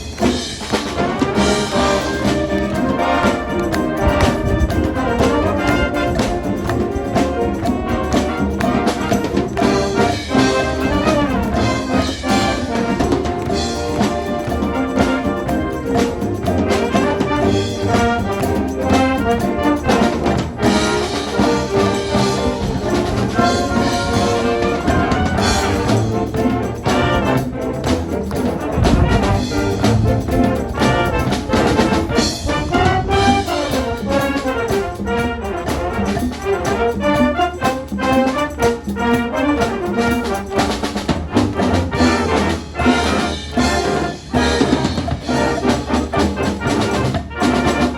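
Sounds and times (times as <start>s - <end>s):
brass section: 0.0s - 47.9s
drum kit and percussion beat: 0.0s - 47.9s
marching band playing: 0.0s - 47.9s.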